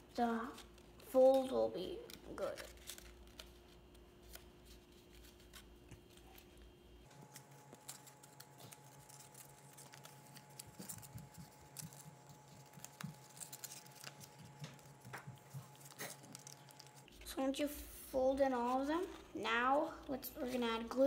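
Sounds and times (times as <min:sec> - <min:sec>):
paper rustling and creasing: 0:00.0 - 0:17.2, 0:20.4 - 0:21.0.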